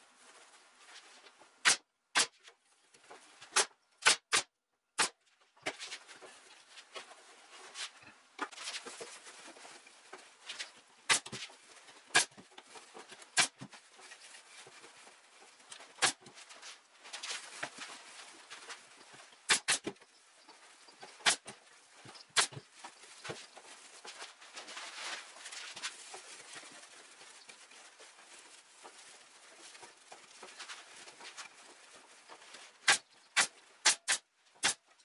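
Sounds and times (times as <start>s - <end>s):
burlap and stuffing rustling: 5.6s - 33.8s.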